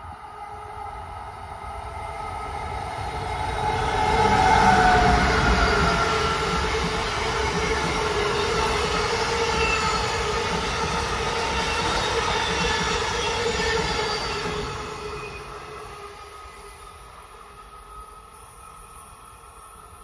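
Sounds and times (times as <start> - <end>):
locomotive whine: 0.0 - 20.0
train wheels rumbling on rails: 0.8 - 17.3.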